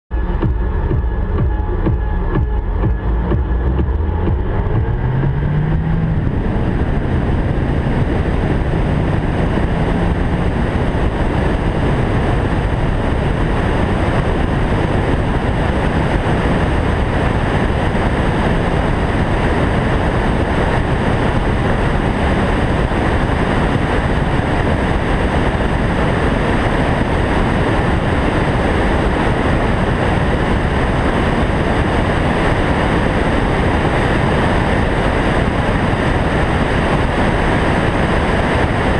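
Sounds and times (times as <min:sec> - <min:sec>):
car engine accelerating: 0:00.1 - 0:38.9
wind and road noise: 0:00.1 - 0:38.9
wind buffeting microphone: 0:00.2 - 0:38.9.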